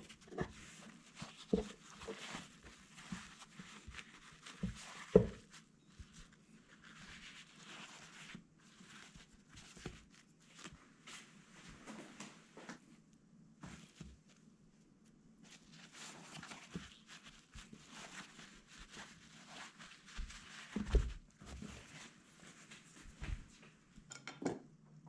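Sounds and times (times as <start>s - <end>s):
paper towels rustling: 0.0s - 12.9s, 13.6s - 14.5s, 15.4s - 23.6s.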